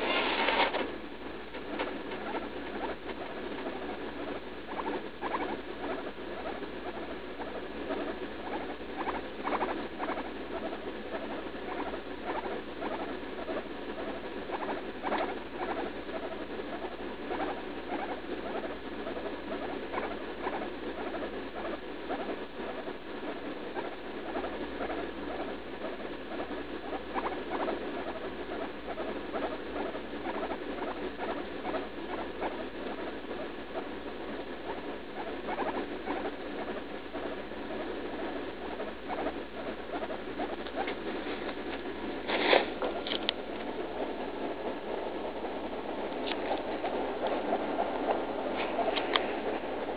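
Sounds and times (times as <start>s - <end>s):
guinea pig squeaking: 0.0s - 49.9s.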